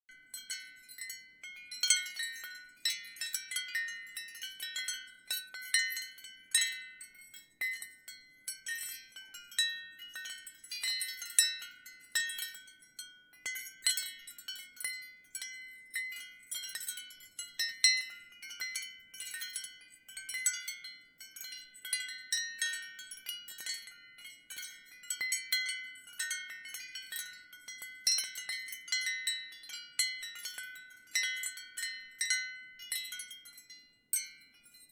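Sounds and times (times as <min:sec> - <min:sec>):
ceramic wind chime clinking: 0:00.1 - 0:34.9.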